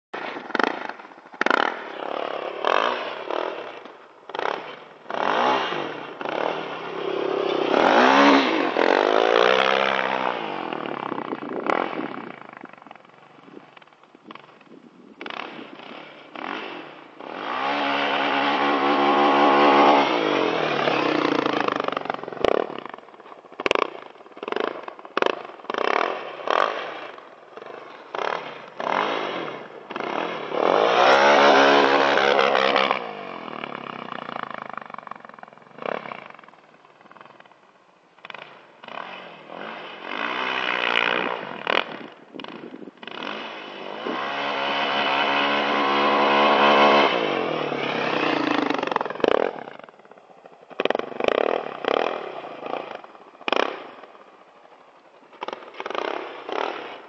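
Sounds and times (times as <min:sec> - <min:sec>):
quad engine revving: 0:00.2 - 0:13.6, 0:15.2 - 0:37.5, 0:38.2 - 0:57.0.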